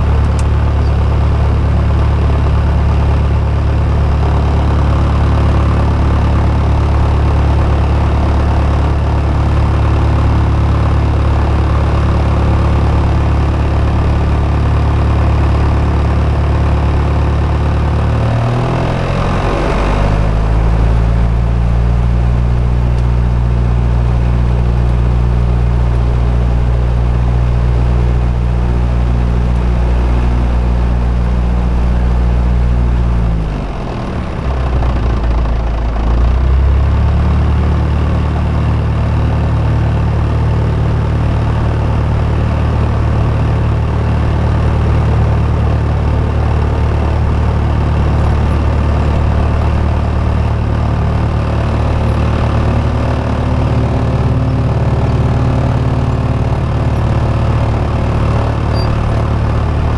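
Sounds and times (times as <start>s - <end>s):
light aircraft engine idling: 0.0s - 18.1s, 20.1s - 59.9s.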